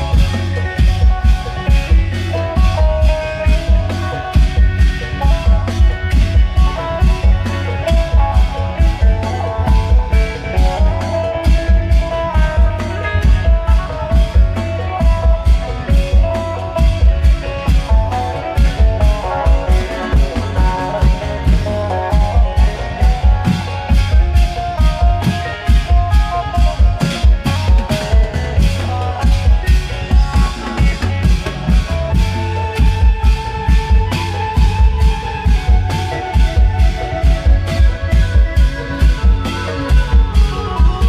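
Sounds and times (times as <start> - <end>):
amplified plucked string melody: 0.0 - 41.0
drums driving beat: 0.0 - 41.0.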